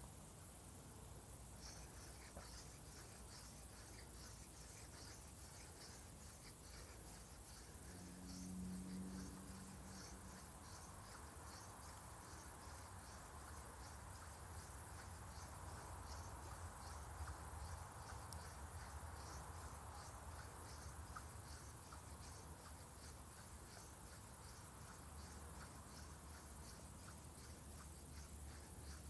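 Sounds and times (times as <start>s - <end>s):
crickets chirping: 0.0s - 29.0s
high insect trill: 0.0s - 29.0s.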